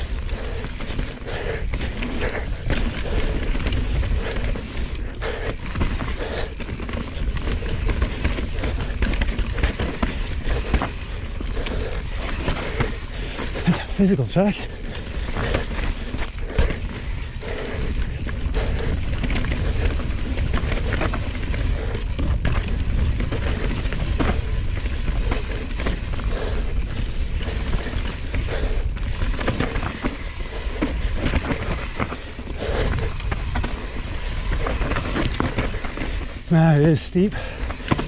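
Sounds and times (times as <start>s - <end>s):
wind buffeting microphone: 0.0s - 36.5s
bike knocking and rattling: 0.0s - 38.0s
tyres rumbling over rough ground: 0.0s - 38.0s.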